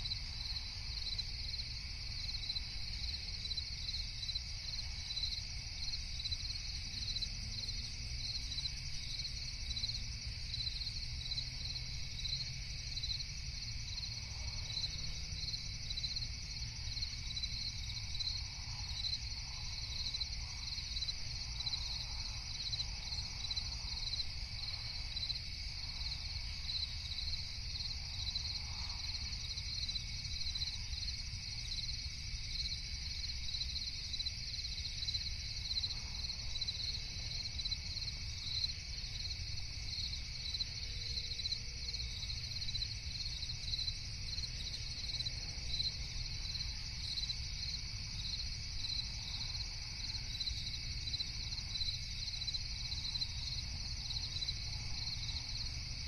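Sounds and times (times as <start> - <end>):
crickets chirping: 0.0 - 56.0
high hum of insects: 0.0 - 56.0.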